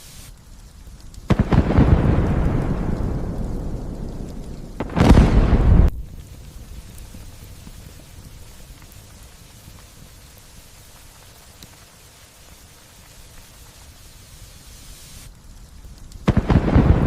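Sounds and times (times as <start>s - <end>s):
faint ticks of raindrops: 0.0s - 17.0s
light rain falling: 0.0s - 17.0s.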